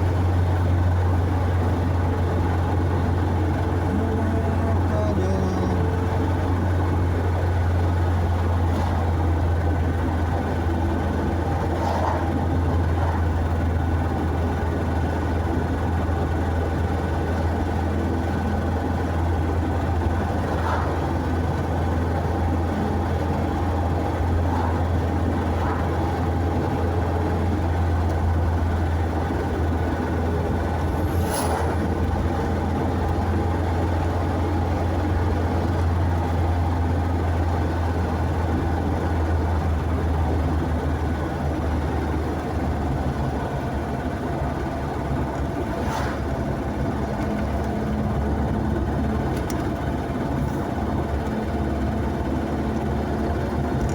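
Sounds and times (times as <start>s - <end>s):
vehicle engine and road rumble: 0.0s - 53.9s.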